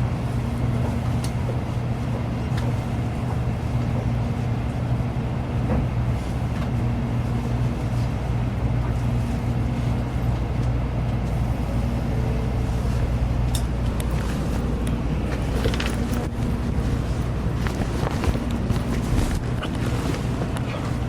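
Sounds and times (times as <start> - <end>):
train cabin hum and rumble: 0.0 - 21.0.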